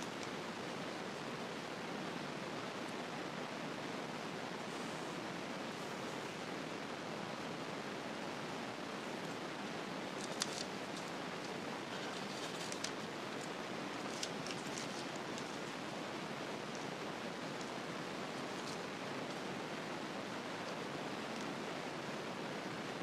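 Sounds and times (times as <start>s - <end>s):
faint clicks and rustles: 0.0s - 6.8s, 8.6s - 23.0s
steady background hiss: 0.0s - 23.0s.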